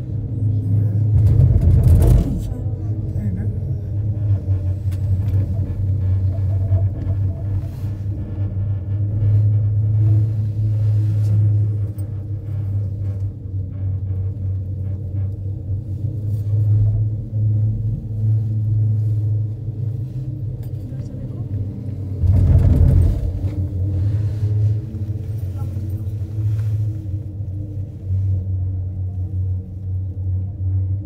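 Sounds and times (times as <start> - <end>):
cable car rumble: 0.0 - 31.0.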